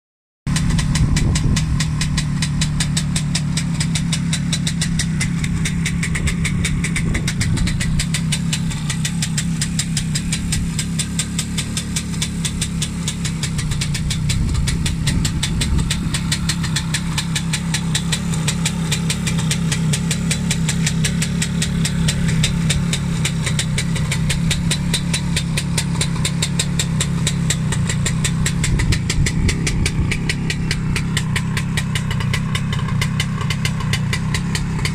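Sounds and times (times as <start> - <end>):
motorcycle engine idling: 0.5 - 34.9.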